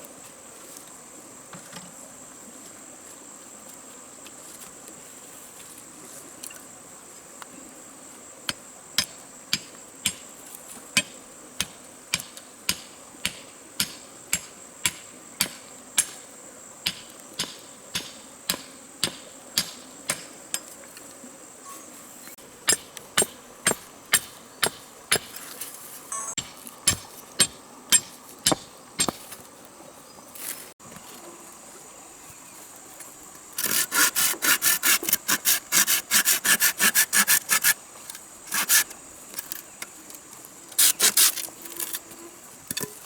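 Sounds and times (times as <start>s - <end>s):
high insect drone: 0.1s - 43.0s.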